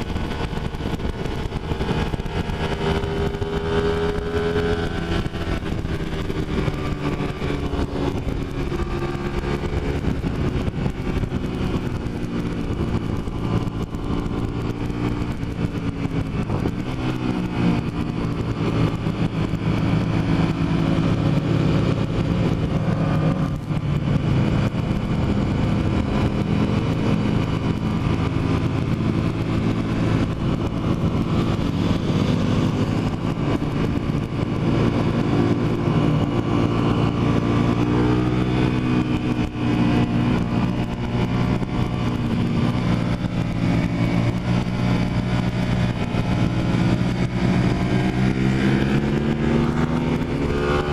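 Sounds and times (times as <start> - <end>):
constant rush of noise: 0.0 - 50.9
motorcycle engine running: 0.0 - 50.9.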